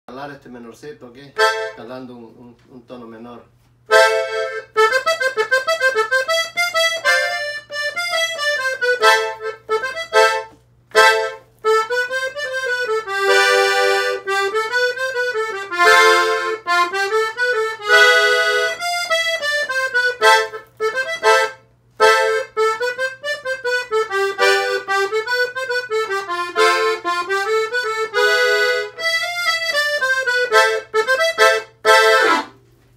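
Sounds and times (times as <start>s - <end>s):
button accordion playing: 1.4s - 1.9s, 3.9s - 32.6s.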